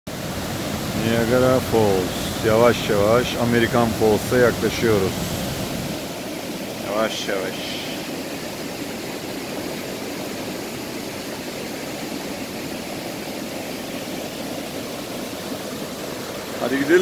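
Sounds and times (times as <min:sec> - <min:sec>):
rushing river water: 0:00.1 - 0:17.0.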